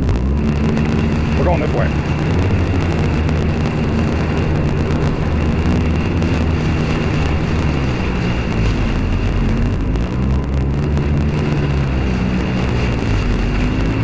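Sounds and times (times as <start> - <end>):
watercraft engine drone: 0.0 - 14.0
wind and spray rushing: 0.0 - 14.0.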